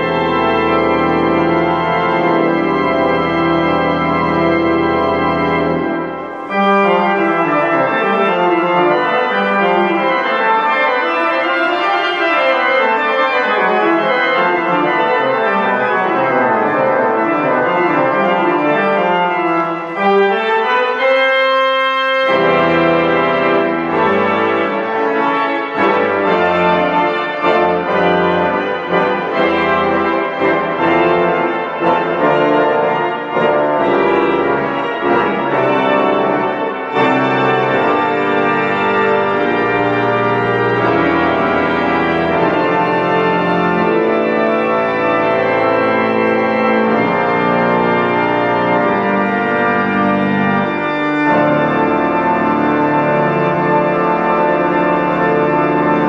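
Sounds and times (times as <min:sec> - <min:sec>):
pipe organ playing: 0:00.0 - 0:56.0.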